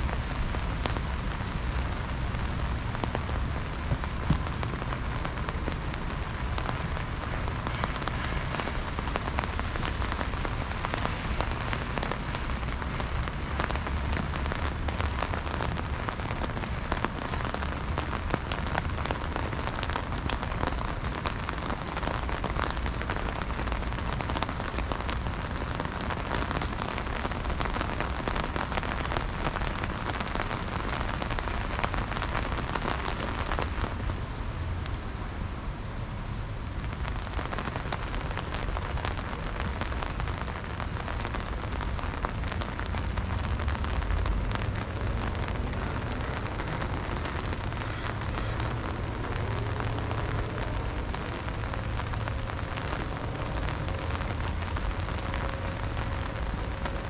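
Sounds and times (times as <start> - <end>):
raindrops ticking: 0.0 - 35.6, 36.5 - 57.0
heavy rain falling: 0.0 - 57.0.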